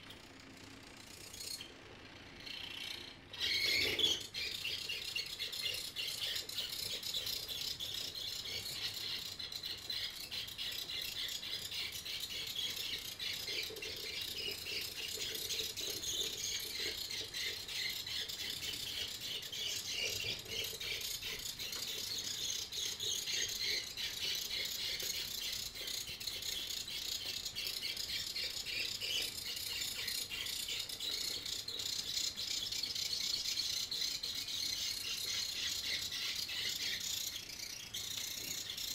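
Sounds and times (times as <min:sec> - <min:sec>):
small motors rattling buzz: 0:00.0 - 0:38.9.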